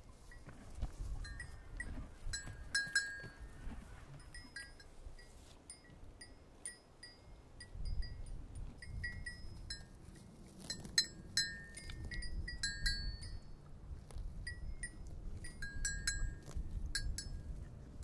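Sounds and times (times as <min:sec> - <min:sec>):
livestock bells tinkling: 0:01.2 - 0:03.5, 0:04.1 - 0:13.6, 0:14.5 - 0:17.5.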